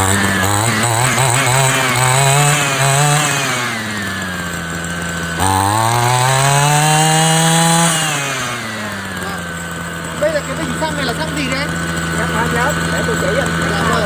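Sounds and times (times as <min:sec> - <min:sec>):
grass cutter engine revving: 0:00.0 - 0:14.0.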